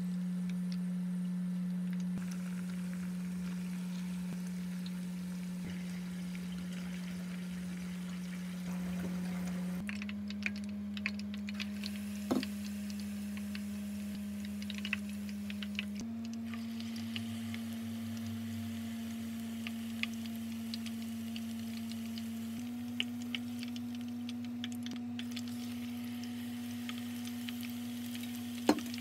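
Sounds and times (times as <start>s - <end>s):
steady low hum: 0.0s - 29.0s
oil frying with crackling pops: 0.4s - 29.0s.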